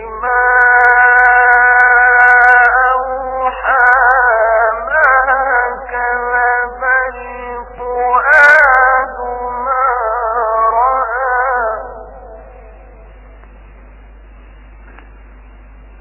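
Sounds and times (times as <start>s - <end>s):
man reciting melodically: 0.0s - 13.1s
steady low hum: 0.0s - 16.0s.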